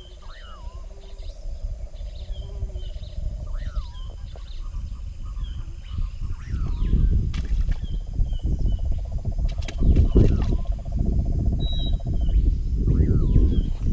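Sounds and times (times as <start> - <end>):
steady low rumble: 0.0 - 13.9.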